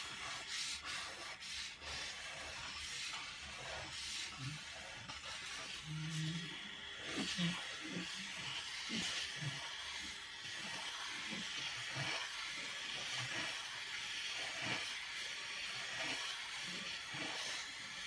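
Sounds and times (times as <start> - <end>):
pencils scratching on paper: 0.0 - 18.0.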